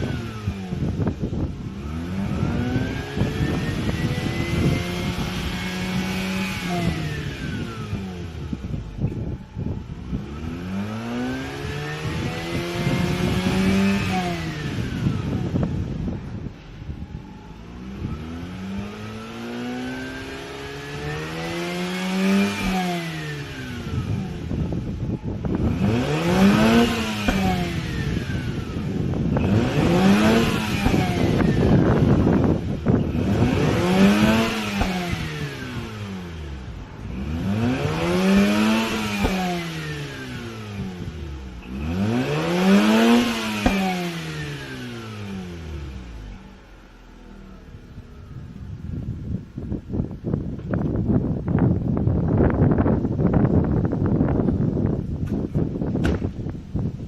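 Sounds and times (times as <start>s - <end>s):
rotary engine revving: 0.0s - 57.0s.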